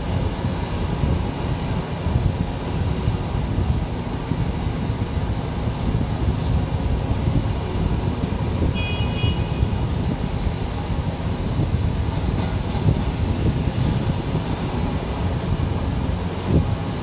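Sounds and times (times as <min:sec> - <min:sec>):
diesel machinery engines running: 0:00.0 - 0:17.0.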